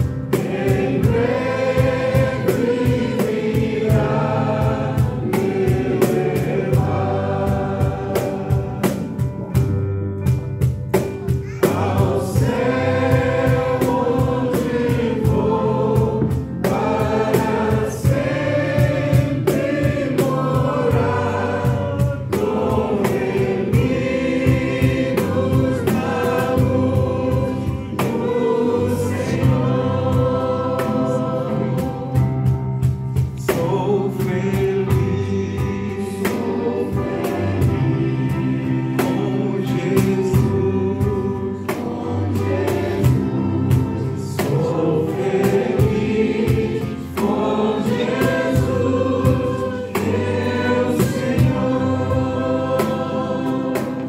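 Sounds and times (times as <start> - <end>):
group singing a hymn: 0.0 - 10.0, 11.4 - 54.0
acoustic guitar: 0.0 - 54.0
cajon beat: 0.0 - 54.0
electric bass: 0.0 - 54.0
keyboard: 0.0 - 54.0.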